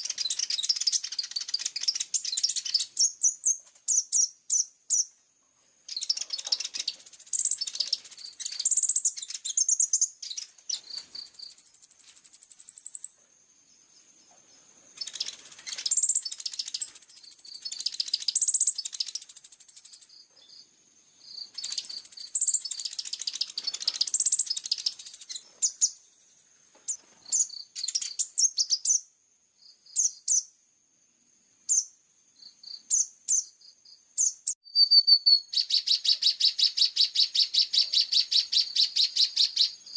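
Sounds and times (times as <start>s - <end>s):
sunbird twittering and trilling: 0.0s - 39.9s.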